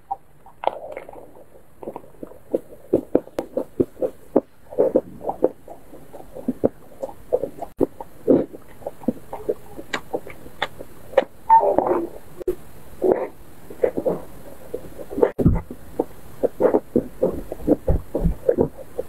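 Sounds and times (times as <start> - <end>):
person chewing food: 0.0 - 12.2, 13.0 - 19.0.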